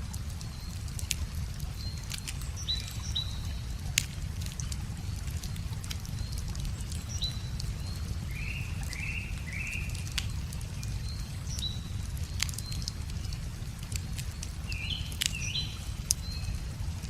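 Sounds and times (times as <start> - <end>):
bonfire crackling and popping: 0.0 - 17.0
birds chirping: 0.4 - 17.0.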